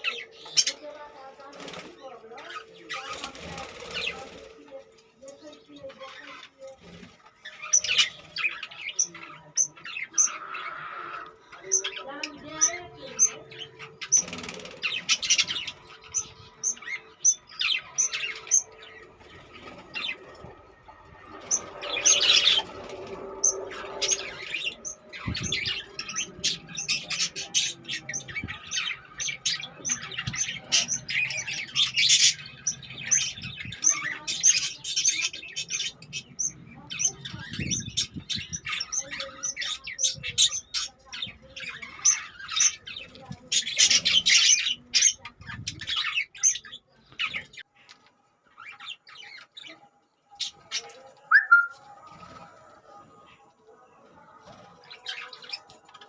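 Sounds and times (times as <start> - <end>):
budgerigars chirping and squawking: 0.0 - 47.7, 48.5 - 52.6, 54.2 - 56.0.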